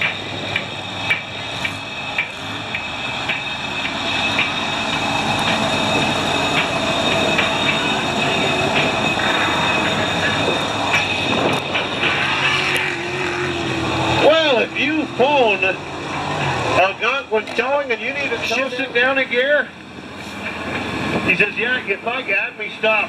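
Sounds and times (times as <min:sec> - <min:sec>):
tractor pulling machine droning: 0:00.0 - 0:23.0.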